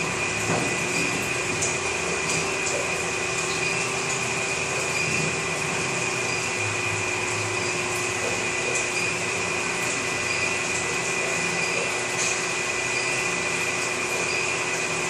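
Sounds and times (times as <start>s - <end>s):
furnace hissing and humming: 0.0s - 15.0s.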